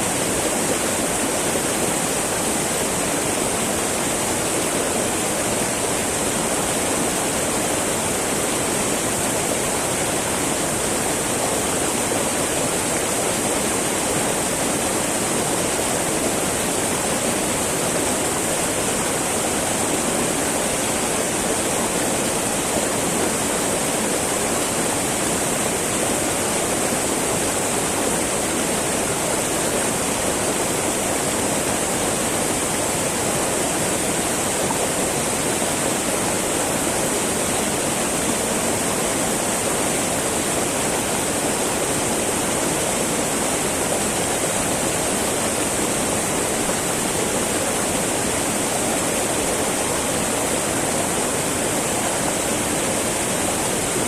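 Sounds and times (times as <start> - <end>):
river babbling over rocks: 0.0 - 54.0.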